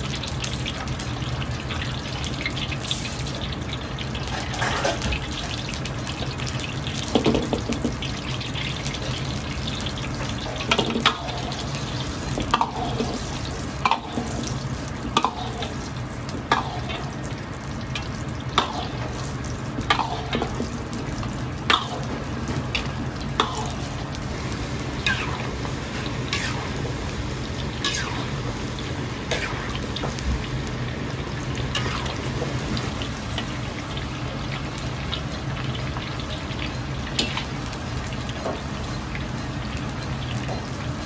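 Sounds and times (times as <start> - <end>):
food sizzling in hot oil: 0.0 - 41.0.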